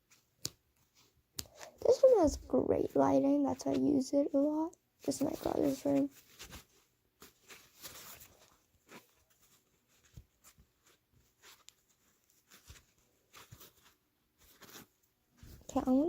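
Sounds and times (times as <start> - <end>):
hands handling craft materials: 0.0 - 2.6, 3.5 - 16.0.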